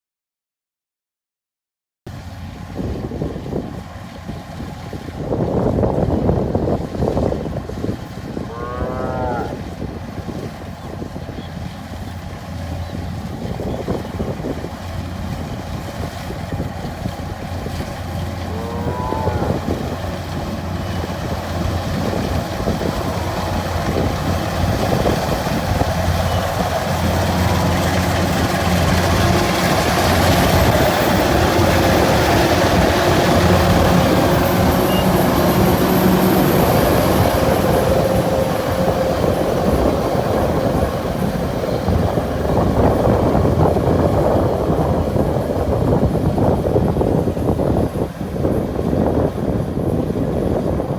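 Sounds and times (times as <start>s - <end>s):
combine harvester running: 2.1s - 8.6s, 9.3s - 50.9s.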